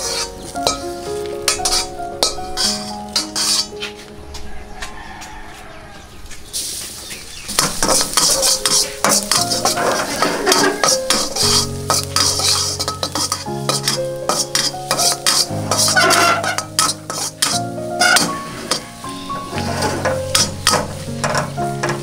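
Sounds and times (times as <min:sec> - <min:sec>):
food sizzling in hot oil: 0:00.0 - 0:03.9, 0:06.5 - 0:22.0
metal spatula scraping a wok: 0:00.0 - 0:04.0, 0:07.5 - 0:22.0.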